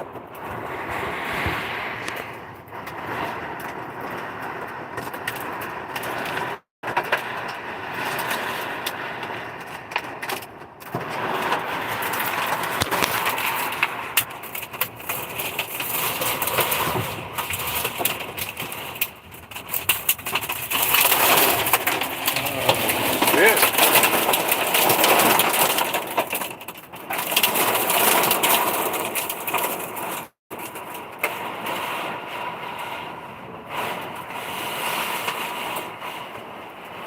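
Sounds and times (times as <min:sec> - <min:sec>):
heavy rain on a truck: 0:00.0 - 0:37.0
hail impacts ticking: 0:02.0 - 0:37.0.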